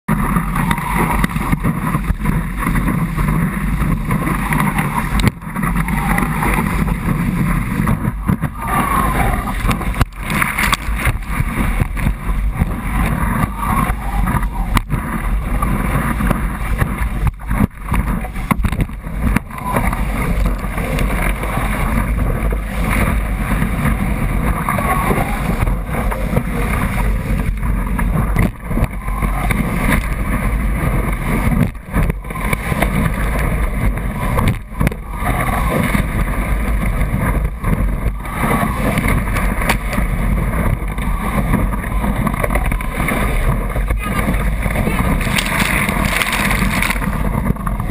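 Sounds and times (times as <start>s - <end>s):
whitewater rushing and churning: 0.1s - 47.9s
wind buffeting microphone: 0.1s - 47.9s.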